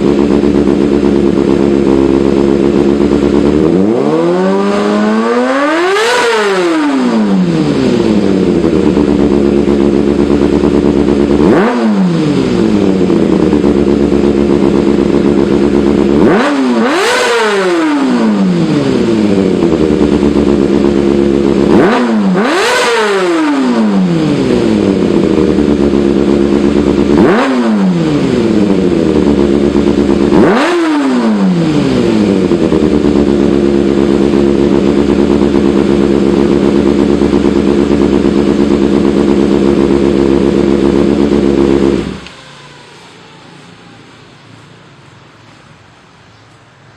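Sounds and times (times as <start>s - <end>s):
motorcycle idling and revving: 0.0s - 46.9s.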